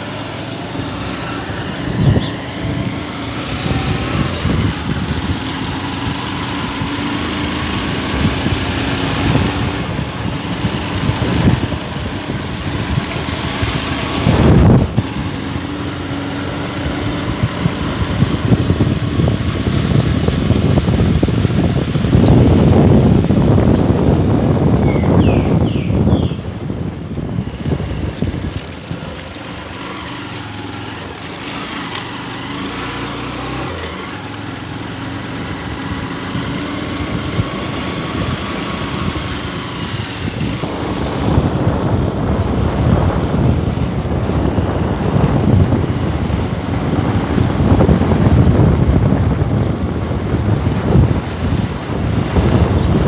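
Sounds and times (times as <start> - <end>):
vehicle engine running: 0.0 - 53.0
wind rumbling on microphone: 0.0 - 53.0.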